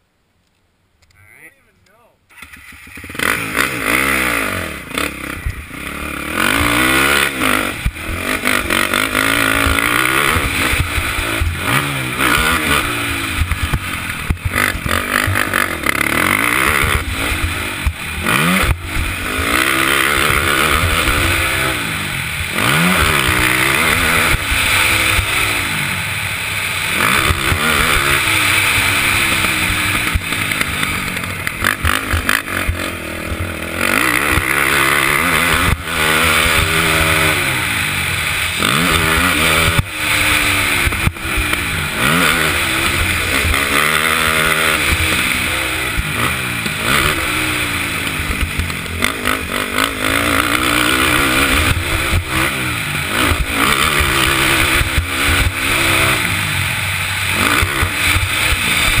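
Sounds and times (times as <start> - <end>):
atv engine revving: 2.3 - 59.0.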